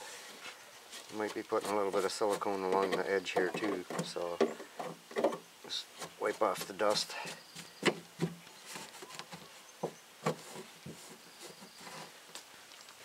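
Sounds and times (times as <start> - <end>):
light knocks and handling noises: 0.4 - 12.5.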